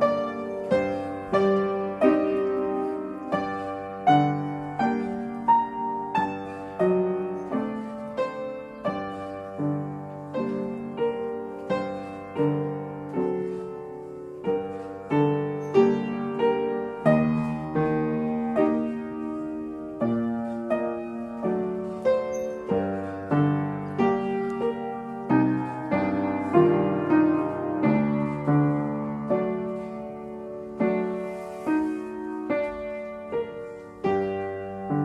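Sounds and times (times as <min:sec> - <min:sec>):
piano playing slow chords: 0:00.0 - 0:35.0.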